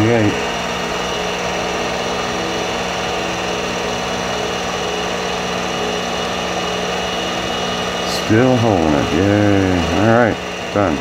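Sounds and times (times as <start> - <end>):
cutter milling metal: 0.0 - 11.0
mill motor humming: 0.0 - 11.0.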